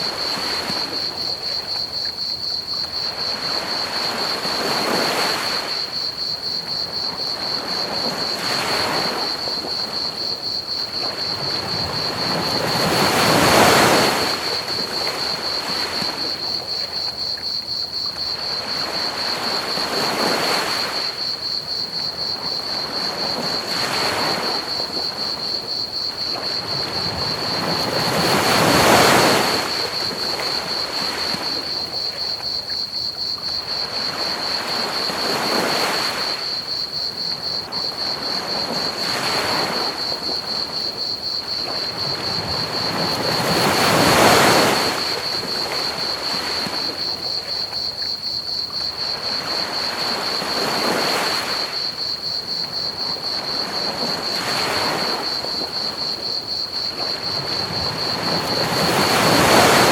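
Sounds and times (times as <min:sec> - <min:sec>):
crickets chirping: 0:00.0 - 0:59.9
ocean waves on a beach: 0:00.0 - 0:59.9.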